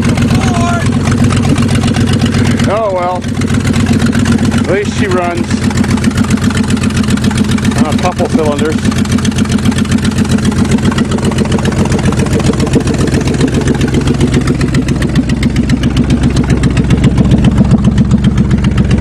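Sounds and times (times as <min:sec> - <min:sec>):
truck engine idling roughly: 0:00.0 - 0:19.0.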